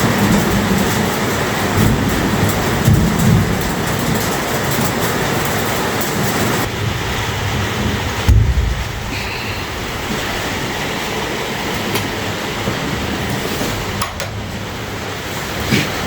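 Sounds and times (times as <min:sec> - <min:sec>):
steady rumbling: 0:00.0 - 0:16.0.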